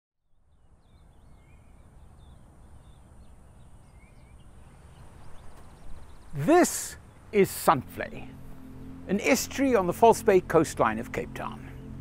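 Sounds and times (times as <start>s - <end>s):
low rumble of wind or traffic: 0.2s - 12.0s
small birds chirping: 0.4s - 12.0s.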